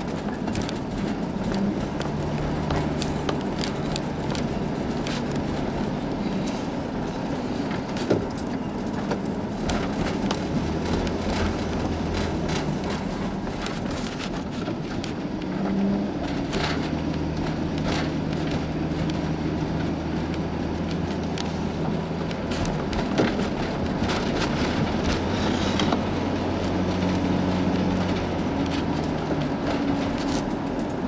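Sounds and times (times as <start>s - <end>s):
light clicks and rattles: 0.0s - 31.0s
vehicle engine and tyre hum: 0.0s - 31.0s.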